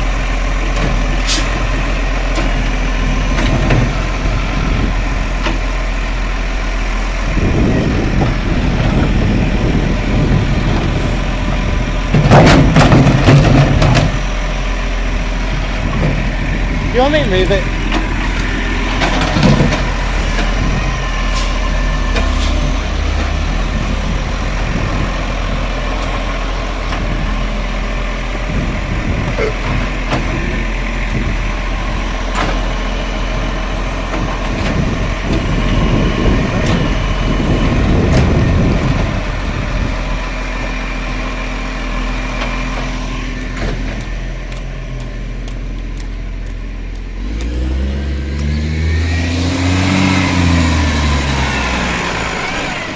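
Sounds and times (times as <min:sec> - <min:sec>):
garbage truck engine running: 0:00.0 - 0:52.9.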